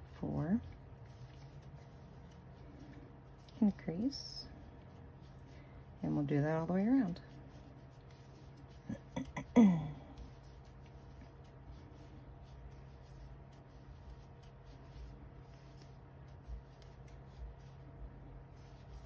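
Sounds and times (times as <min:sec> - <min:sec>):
crochet hook scratching yarn: 0:00.0 - 0:19.0
steady low hum: 0:00.0 - 0:19.0.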